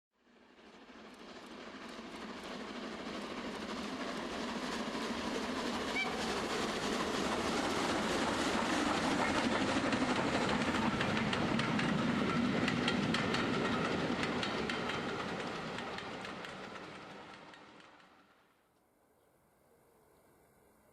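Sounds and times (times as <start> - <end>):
model train wheels rumbling: 0.2 - 18.5.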